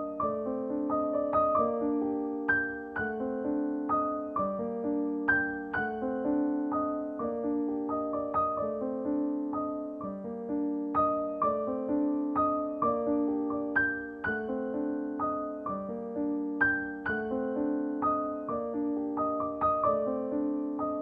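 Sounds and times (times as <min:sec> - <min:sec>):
solo piano music: 0:00.0 - 0:21.0.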